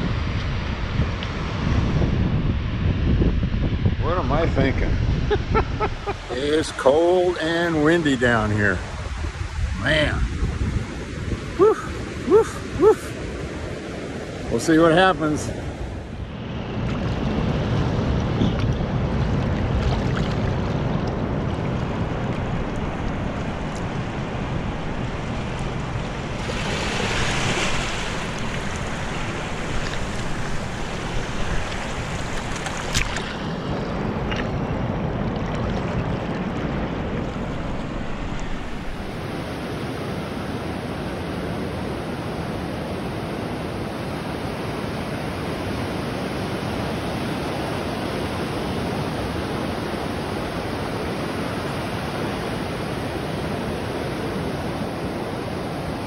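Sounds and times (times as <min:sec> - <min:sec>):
wind rumbling on microphone: 0:00.0 - 0:14.6, 0:15.2 - 0:56.0
ocean surf breaking on beach: 0:00.0 - 0:56.0.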